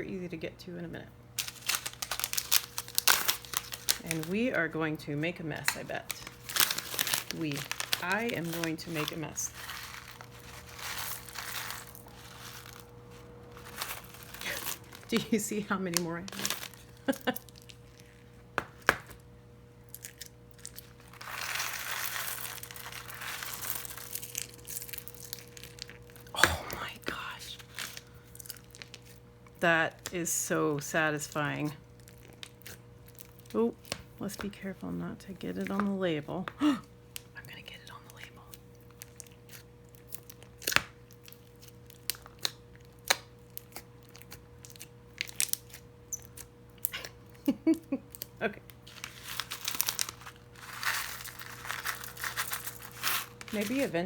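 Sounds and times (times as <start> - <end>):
crunchy slime crackling: 1.4 - 4.6, 5.4 - 19.2, 19.8 - 34.5, 37.1 - 47.4, 48.1 - 54.0.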